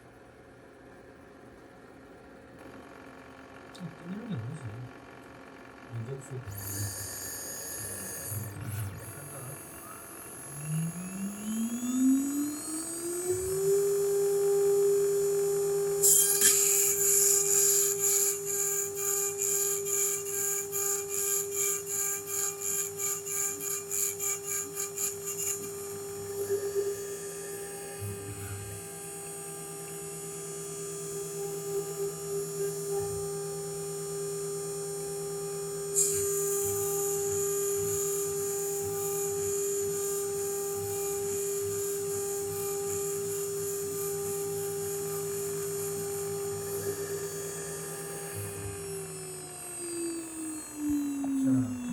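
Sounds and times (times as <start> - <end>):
motor hum: 0.0 - 51.9.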